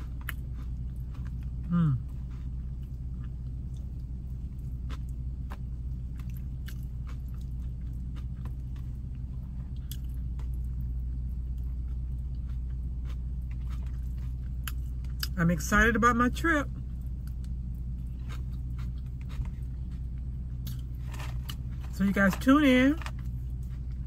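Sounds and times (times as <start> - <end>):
person chewing food: 0.0 - 15.4, 16.8 - 21.9, 23.0 - 24.0
steady low hum: 0.0 - 24.0.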